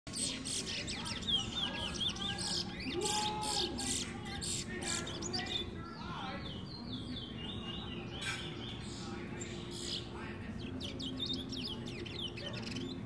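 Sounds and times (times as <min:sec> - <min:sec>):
songbird singing: 0:00.1 - 0:13.0.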